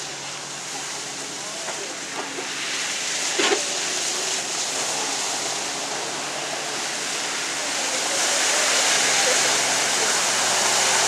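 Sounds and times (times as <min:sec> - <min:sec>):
rushing water and spray: 0:00.0 - 0:11.0
truck ploughing through water and mud: 0:00.0 - 0:11.0.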